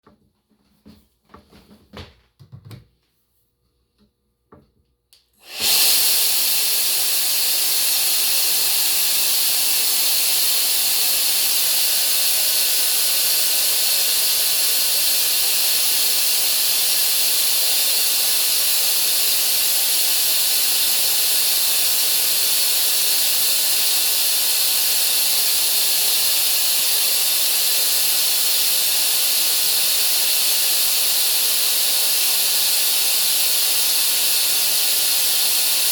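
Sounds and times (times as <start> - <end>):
compressed-air engine running: 5.4 - 35.9
hiss of exhausting air: 5.4 - 35.9.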